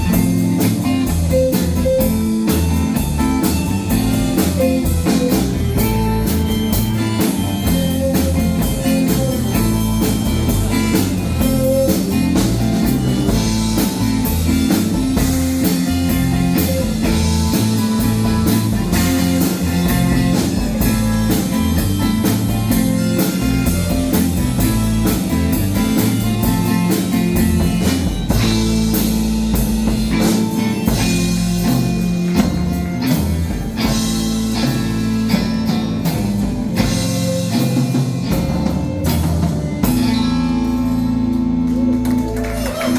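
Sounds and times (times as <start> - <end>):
blues rock band playing: 0.0 - 42.9.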